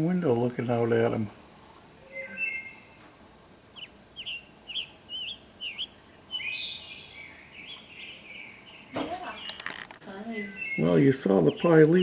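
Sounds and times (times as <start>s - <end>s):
bird chirping and warbling: 2.0s - 12.0s.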